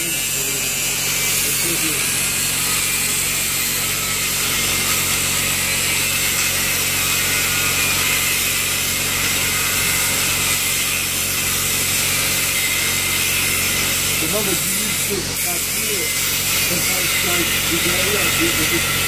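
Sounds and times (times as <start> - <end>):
angle grinder cutting metal: 0.0 - 19.0.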